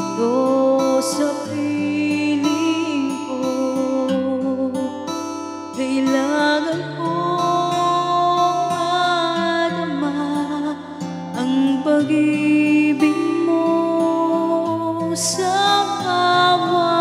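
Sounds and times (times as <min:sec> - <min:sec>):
woman singing a love ballad: 0:00.0 - 0:17.0.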